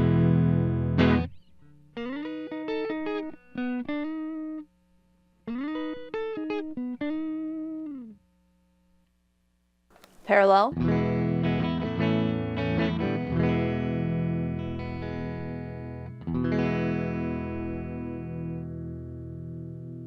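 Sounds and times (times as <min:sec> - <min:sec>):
clean electric guitar: 0:00.0 - 0:04.8, 0:05.4 - 0:08.4, 0:10.0 - 0:20.0.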